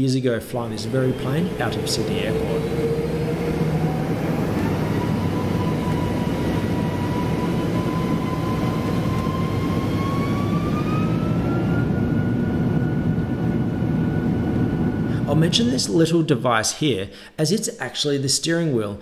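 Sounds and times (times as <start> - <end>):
jet engine rumble: 0.4 - 16.4
jet engine fan whine: 0.4 - 16.6.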